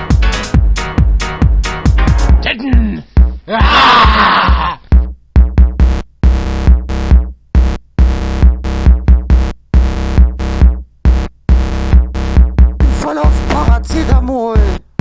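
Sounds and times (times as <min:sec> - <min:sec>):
drum machine kick: 0:00.0 - 0:15.0.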